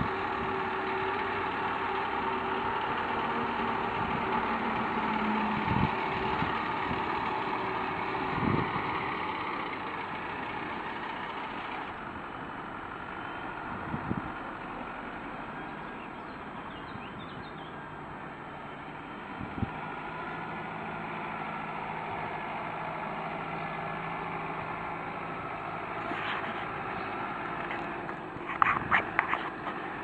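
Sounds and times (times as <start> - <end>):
distant tractor with mower running: 0.0 - 30.0.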